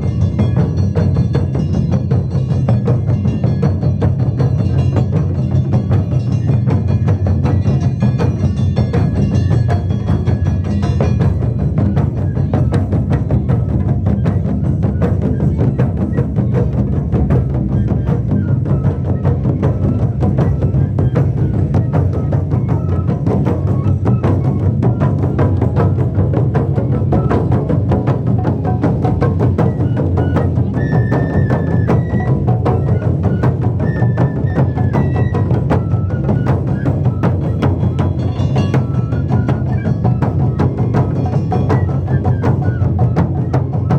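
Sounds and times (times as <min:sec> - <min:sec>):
taiko drum ensemble: 0:00.0 - 0:43.9.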